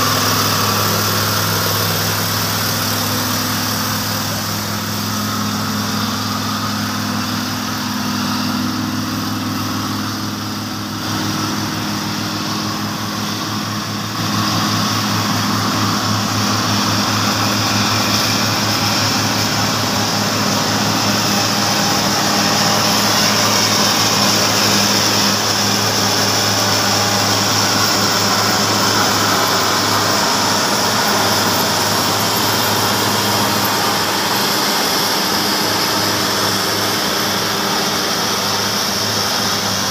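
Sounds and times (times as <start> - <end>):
bulldozer engine running: 0.0 - 39.9
logging truck diesel engine: 0.0 - 39.9.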